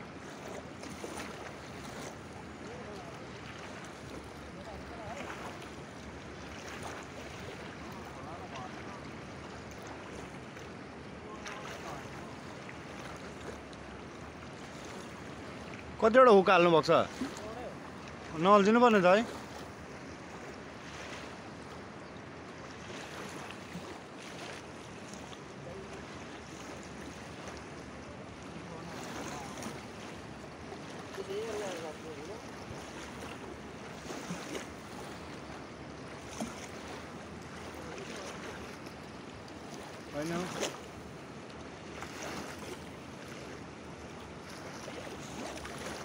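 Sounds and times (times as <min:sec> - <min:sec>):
river flowing: 0:00.0 - 0:46.0.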